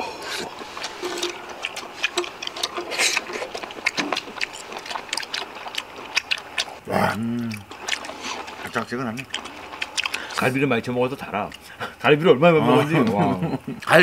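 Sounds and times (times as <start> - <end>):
people chewing with wet mouth smacks: 0.0 - 14.0.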